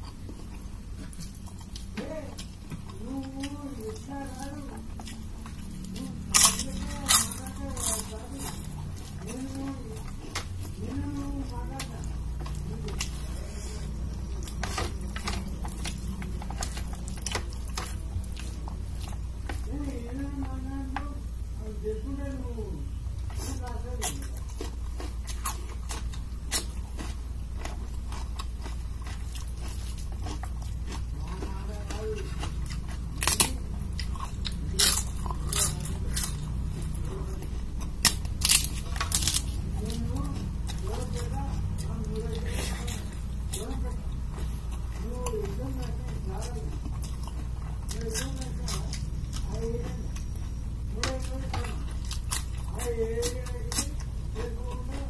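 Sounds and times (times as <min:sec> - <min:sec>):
chewing: 0:00.0 - 0:21.2, 0:22.9 - 0:55.0
crisp papadum crunching: 0:00.0 - 0:55.0
steady low hum: 0:00.0 - 0:55.0.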